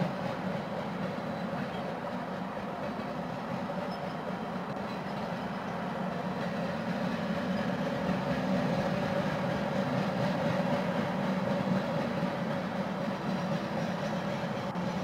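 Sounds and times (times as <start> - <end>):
freight train cars rumbling and rattling: 0.0 - 15.0.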